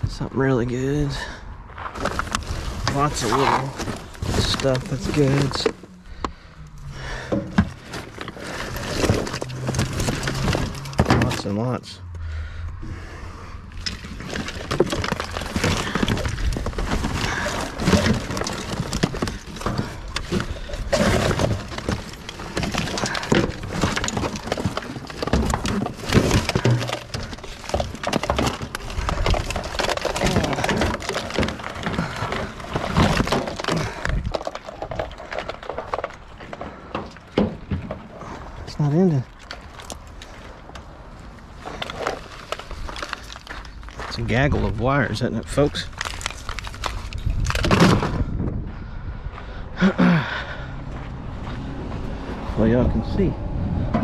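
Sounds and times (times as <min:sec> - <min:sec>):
rummaging through scrap debris: 0:00.0 - 0:12.7, 0:13.4 - 0:48.6.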